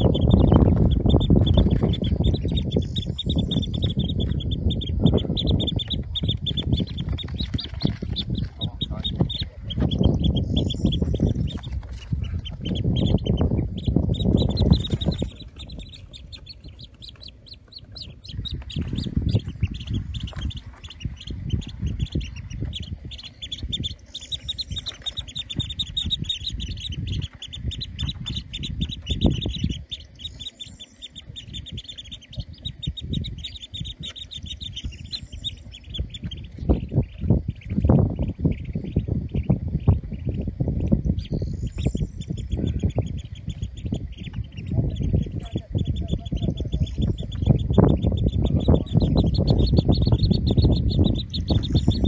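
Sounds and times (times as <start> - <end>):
ducklings peeping: 0.0 - 52.0
low rumble: 0.0 - 52.0.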